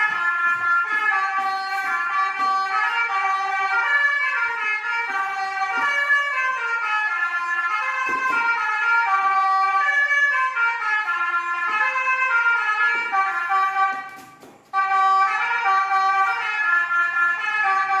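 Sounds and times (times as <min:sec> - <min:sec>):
musical vehicle horn playing a tune: 0:00.0 - 0:18.0.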